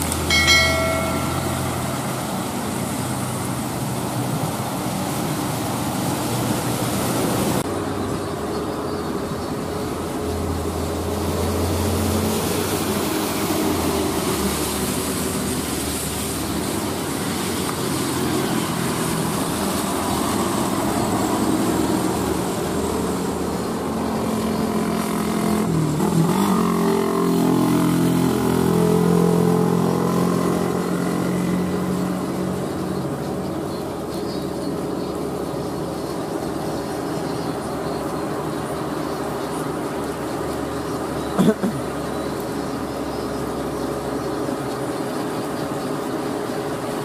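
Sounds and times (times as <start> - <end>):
tyres hissing on wet road: 0.0 - 47.0.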